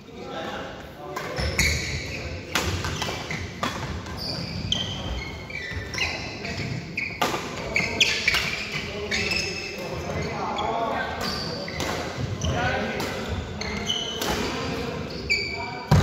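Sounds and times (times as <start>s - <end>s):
shoes squeaking on court: 1.2s - 16.0s.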